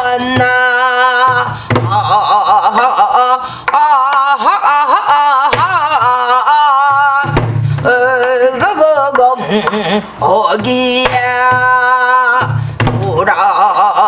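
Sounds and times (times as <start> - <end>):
woman singing folk song: 0.0 - 13.9.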